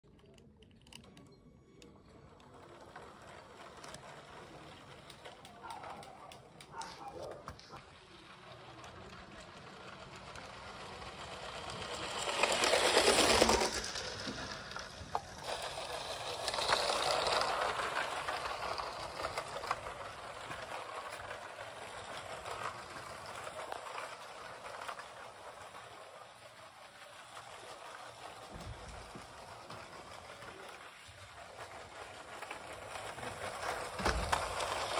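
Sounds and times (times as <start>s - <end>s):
toy train motor whirring: 0.1s - 34.9s.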